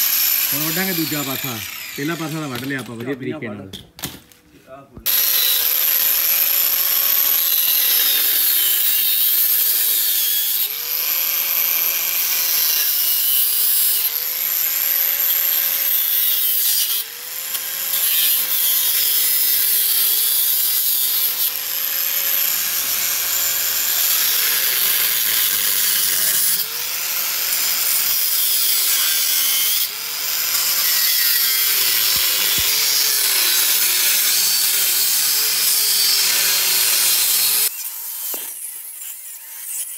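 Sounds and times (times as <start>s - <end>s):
angle grinder cutting metal: 0.0s - 3.4s, 5.0s - 39.9s.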